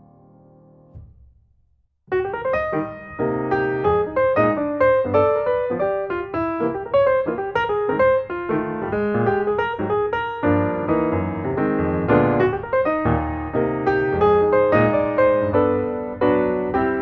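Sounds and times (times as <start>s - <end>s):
piano music: 0.0s - 1.1s, 2.1s - 17.0s.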